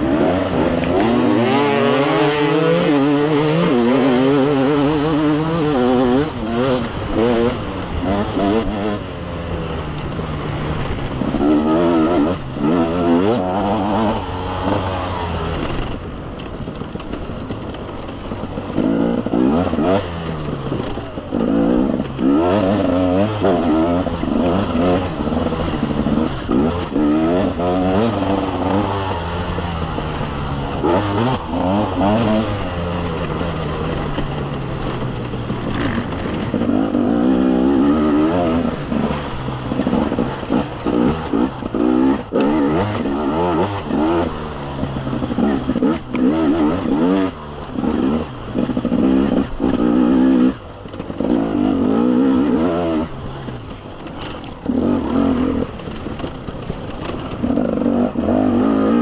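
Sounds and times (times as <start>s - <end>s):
two-stroke engine revving: 0.0s - 59.0s.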